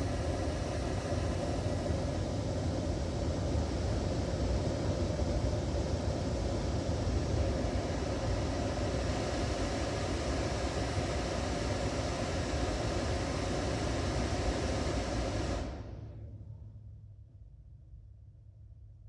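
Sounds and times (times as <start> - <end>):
air conditioning blower rushing: 0.0 - 16.6.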